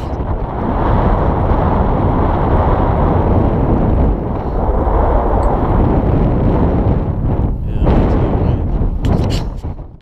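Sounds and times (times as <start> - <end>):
wind on microphone: 0.0 - 10.0.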